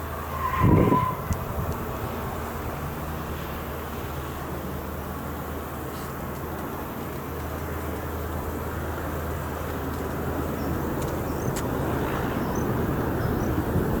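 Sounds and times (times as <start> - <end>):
jet airliner engine noise: 0.0 - 14.0.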